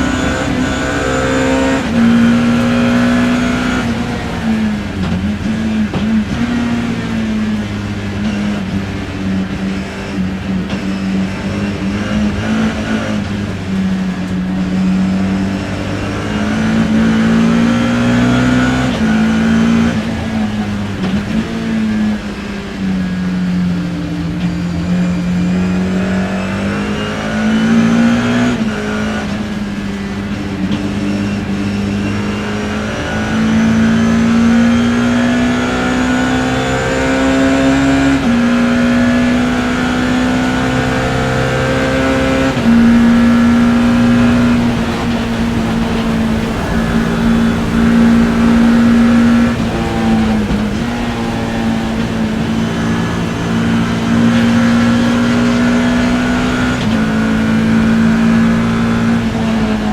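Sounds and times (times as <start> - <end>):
racing car engine under load: 0.0 - 59.9.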